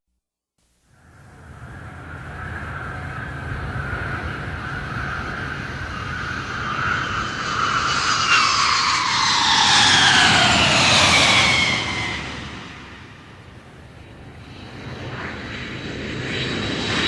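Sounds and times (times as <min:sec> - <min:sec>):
jet aircraft flyby: 0:01.0 - 0:17.0.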